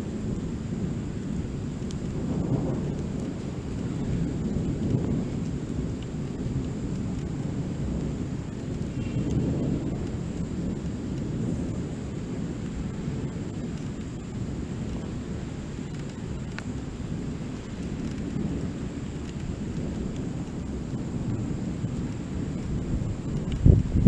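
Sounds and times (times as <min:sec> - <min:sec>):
thunder rumbling: 0:00.0 - 0:24.0.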